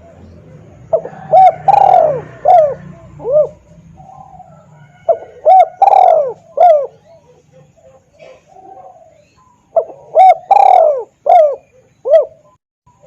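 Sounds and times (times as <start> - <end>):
dove cooing: 0.0 - 12.6.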